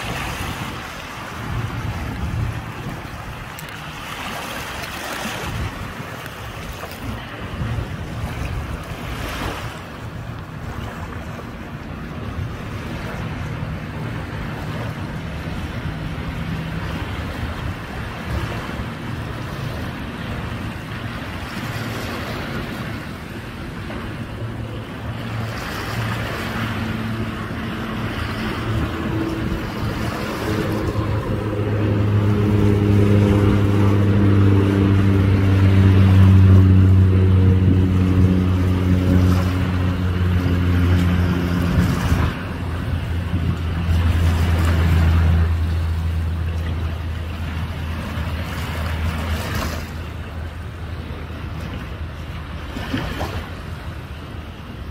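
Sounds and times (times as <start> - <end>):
boat engine humming: 0.0 - 54.9
small waves on shore: 0.0 - 54.9.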